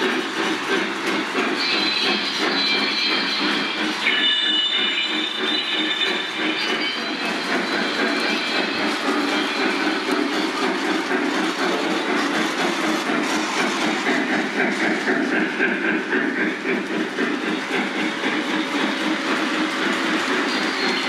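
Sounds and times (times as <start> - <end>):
model train wheels clattering: 0.0 - 21.0.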